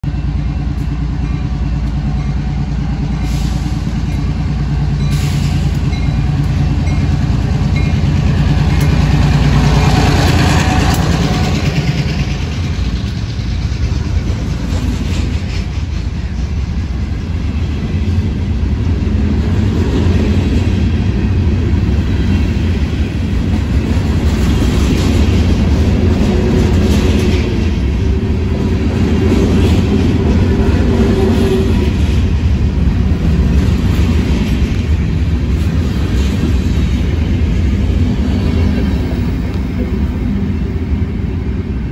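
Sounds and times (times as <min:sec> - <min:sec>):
diesel locomotive engine drone: 0:00.0 - 0:41.9.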